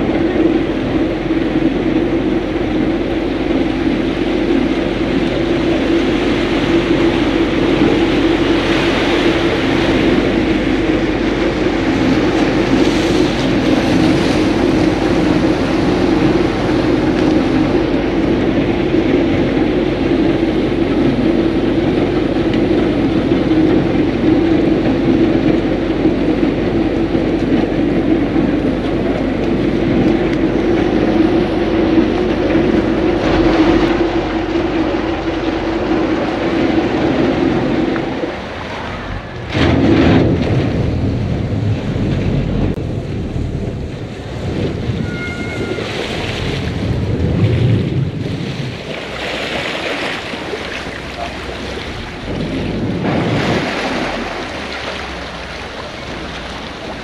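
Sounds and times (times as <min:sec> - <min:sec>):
boat engine drone: 0:00.0 - 0:57.0
water rushing along hull: 0:00.0 - 0:57.0
wind on microphone: 0:00.0 - 0:57.0.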